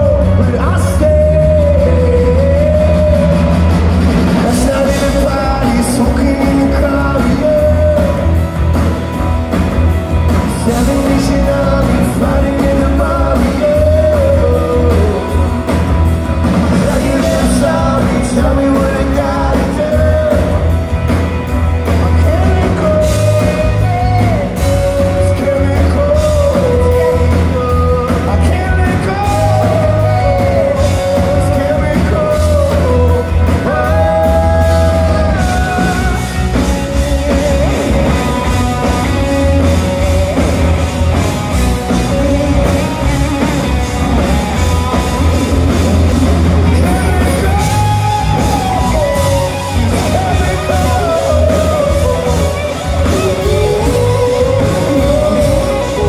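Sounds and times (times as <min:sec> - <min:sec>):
lead vocalist singing: 0:00.0 - 0:56.0
rock band playing: 0:00.0 - 0:56.0.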